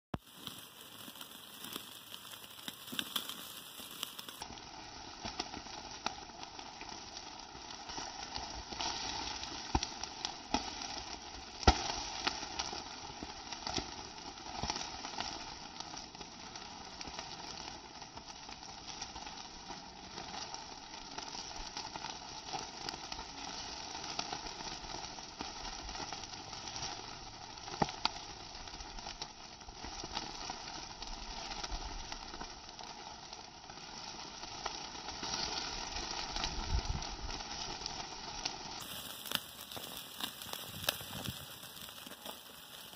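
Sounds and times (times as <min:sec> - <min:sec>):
charcoal crackles and pops: 0:00.1 - 0:42.9
chicken sizzling on a grill: 0:00.1 - 0:42.9.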